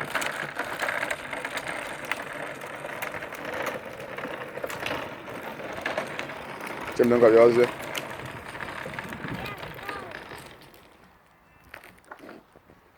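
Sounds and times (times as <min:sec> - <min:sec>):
tractor rattling: 0:00.0 - 0:11.1.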